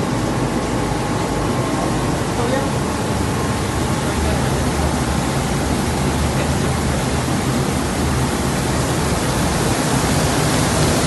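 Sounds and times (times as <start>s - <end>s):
low fan and pump hum: 0.0s - 11.0s
water rushing through cooling tower: 0.0s - 11.0s.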